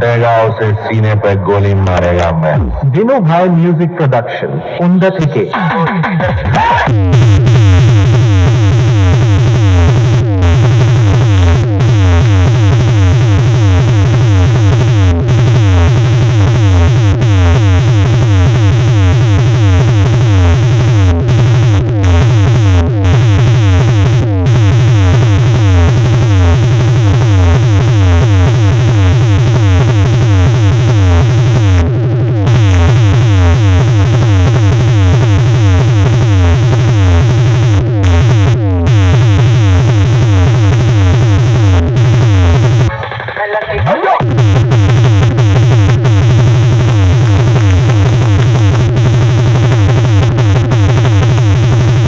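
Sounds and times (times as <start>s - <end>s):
dance music with heavy bass: 0.0s - 52.0s.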